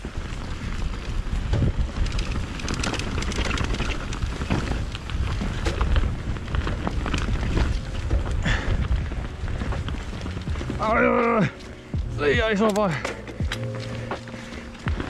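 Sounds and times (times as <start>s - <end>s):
bike rattling clicks and knocks: 0.0s - 15.0s
tyres on trail: 0.0s - 15.0s
wind buffeting microphone: 0.0s - 15.0s.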